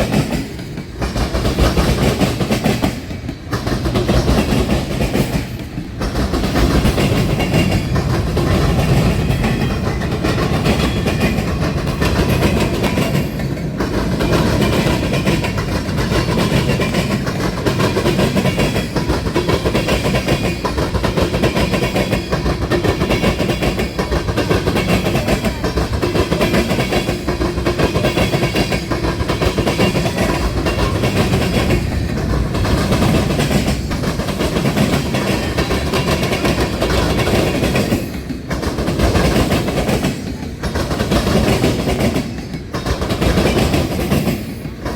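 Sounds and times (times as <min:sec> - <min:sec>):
train rumbling past: 0:00.0 - 0:44.9.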